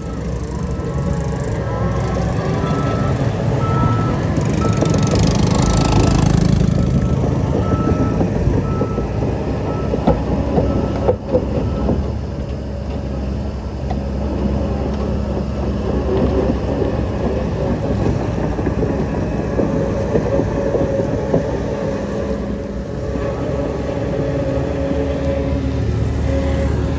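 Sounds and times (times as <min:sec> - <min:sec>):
bulldozer diesel engine rumbling: 0:00.0 - 0:26.9
steel tracks clanking: 0:00.0 - 0:26.9.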